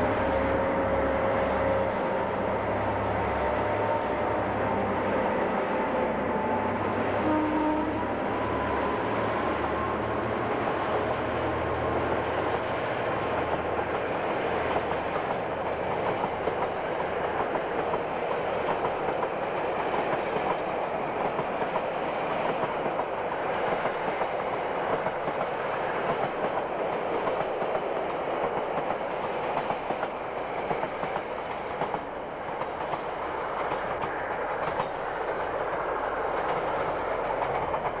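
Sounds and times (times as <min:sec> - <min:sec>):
diesel locomotive engine hum: 0:00.0 - 0:38.0
wagons rumbling on rails: 0:00.0 - 0:38.0.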